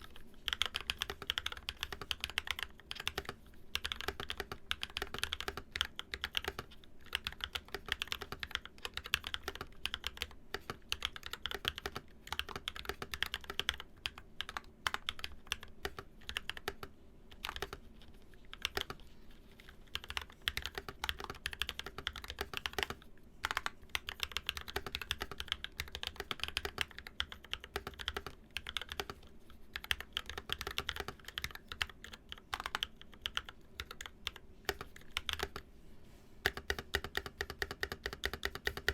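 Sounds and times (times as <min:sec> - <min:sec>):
fast typing on mechanical keyboard: 0:00.0 - 0:35.7, 0:36.4 - 0:38.9.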